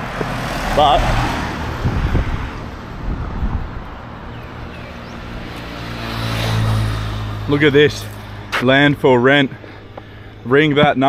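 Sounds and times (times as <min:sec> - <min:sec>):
motor vehicle passing: 0:00.0 - 0:10.5.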